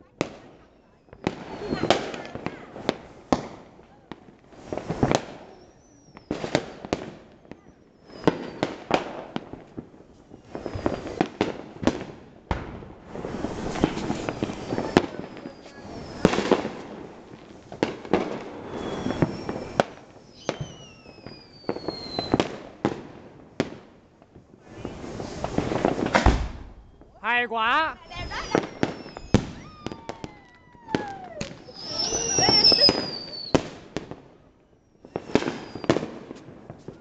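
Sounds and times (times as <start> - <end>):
fireworks bangs: 0.0 - 37.0
fireworks crackling: 0.0 - 37.0
falling firework whistles: 0.6 - 3.6, 4.5 - 12.0, 12.6 - 23.0, 24.6 - 27.2, 27.9 - 37.0.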